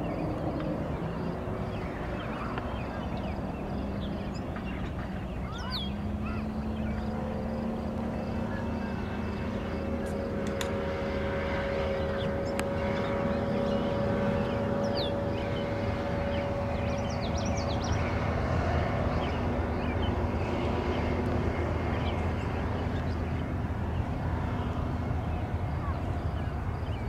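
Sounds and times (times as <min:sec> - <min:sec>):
birds chirping: 0:00.0 - 0:27.0
jet engines rumbling and whining: 0:00.0 - 0:27.0.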